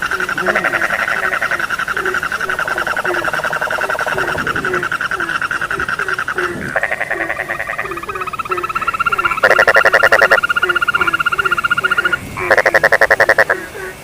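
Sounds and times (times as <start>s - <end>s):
loud fast-pulsed frog call: 0.0s - 13.6s
short low frog croak: 0.0s - 13.6s
frogs trilling: 0.0s - 14.0s.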